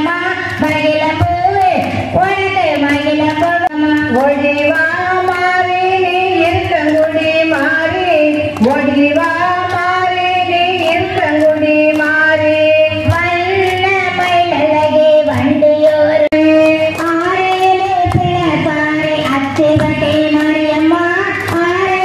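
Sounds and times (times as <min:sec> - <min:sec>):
high voice singing devotional song: 0:00.0 - 0:22.0.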